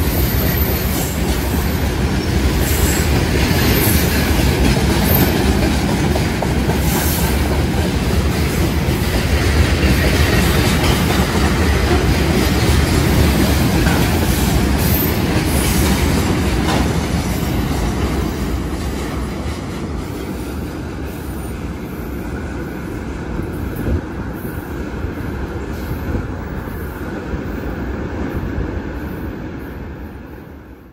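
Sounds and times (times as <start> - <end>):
train wagons rolling on track: 0.0 - 30.9.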